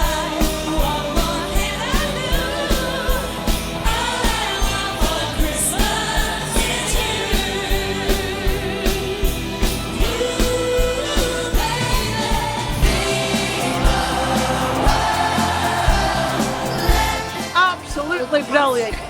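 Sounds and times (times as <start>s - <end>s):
pop song vocals: 0.0s - 19.0s
steady driving beat: 0.0s - 19.0s.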